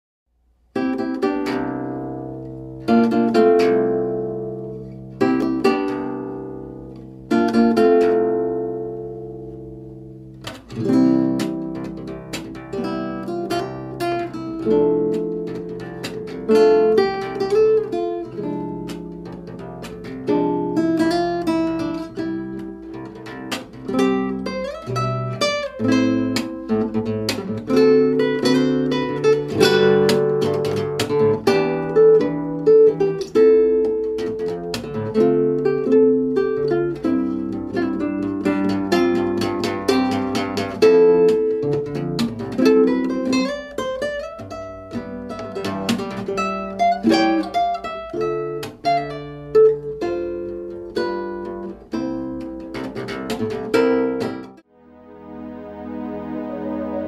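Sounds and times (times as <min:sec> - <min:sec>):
acoustic guitar music: 0:00.5 - 0:57.0.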